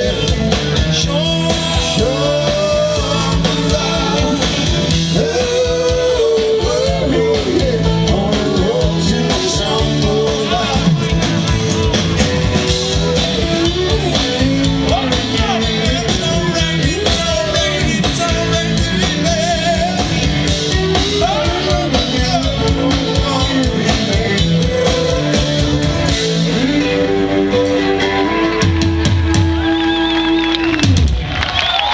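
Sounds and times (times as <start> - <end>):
lead guitar lines: 0.0 - 31.3
steady drum beat: 0.0 - 31.5
rock band playing live: 0.0 - 31.9.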